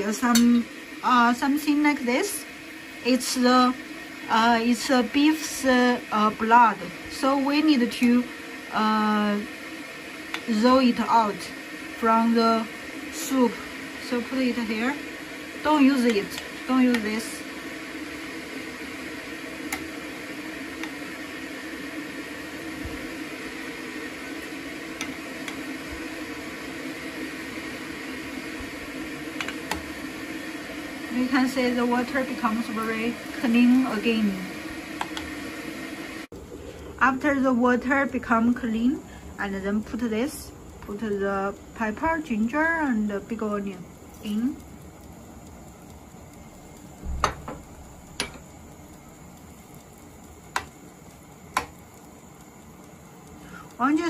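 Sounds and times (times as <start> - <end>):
pot boiling: 0.0 - 54.0.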